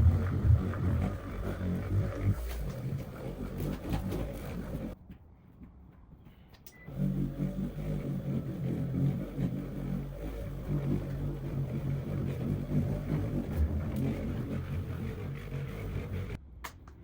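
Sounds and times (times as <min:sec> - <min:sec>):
car polisher motor humming: 0:00.0 - 0:05.0, 0:06.9 - 0:16.4.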